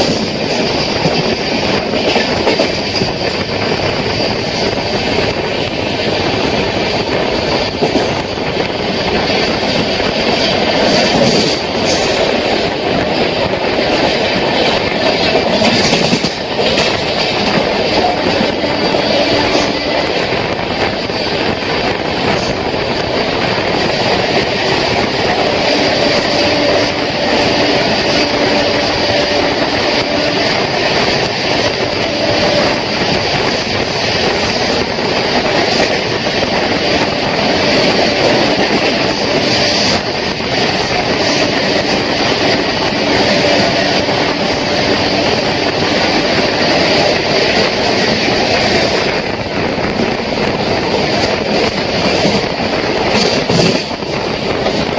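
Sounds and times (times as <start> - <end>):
faint clickety-clack: 0.0 - 54.9
train wheels rumbling and rattling: 0.0 - 54.9.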